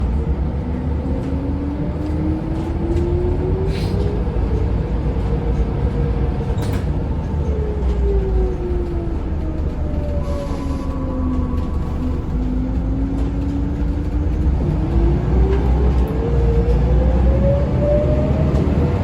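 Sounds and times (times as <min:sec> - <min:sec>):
bus engine rumble with whine: 0:00.0 - 0:19.0.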